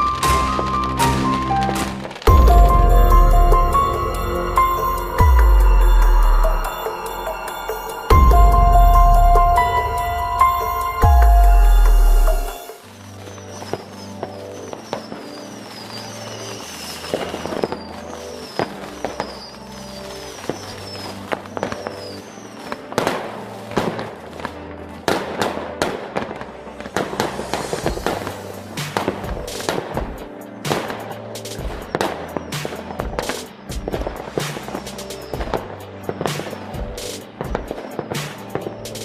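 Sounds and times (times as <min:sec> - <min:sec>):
background music: 0:00.0 - 0:39.0
fireworks banging and crackling: 0:00.0 - 0:39.0.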